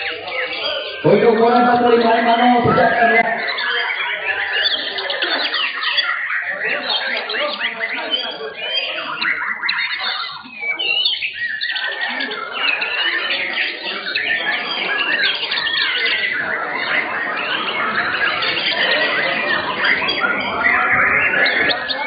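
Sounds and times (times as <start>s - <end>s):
birds singing whistled trills: 0.0s - 22.0s.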